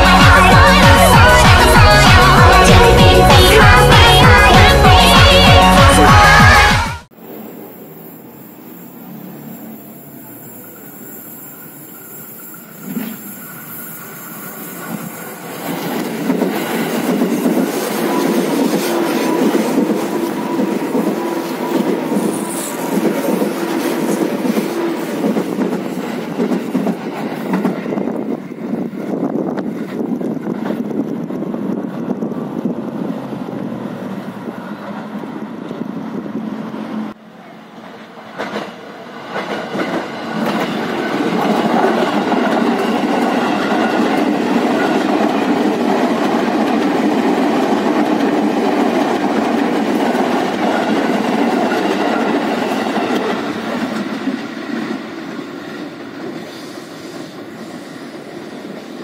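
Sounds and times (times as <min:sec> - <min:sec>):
electric train passing: 0:00.0 - 0:59.0.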